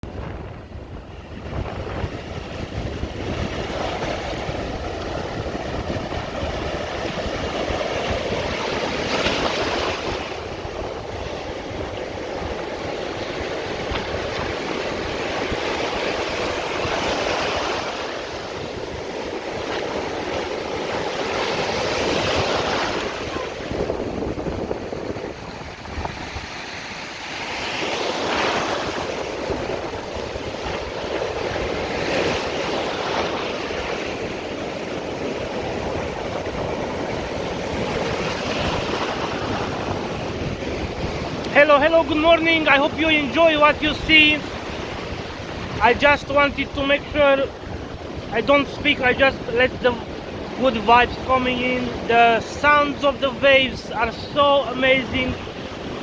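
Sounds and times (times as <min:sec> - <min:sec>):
waves breaking: 0:00.0 - 0:56.0
wind buffeting microphone: 0:00.0 - 0:56.0.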